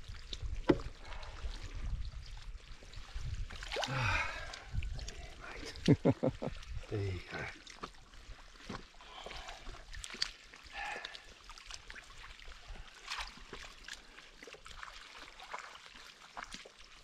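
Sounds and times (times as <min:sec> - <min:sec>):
shallow water splashing: 0:00.0 - 0:17.0.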